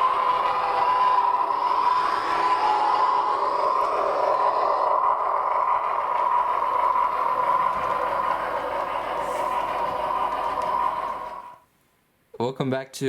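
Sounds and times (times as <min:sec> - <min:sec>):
train running: 0:00.0 - 0:11.7.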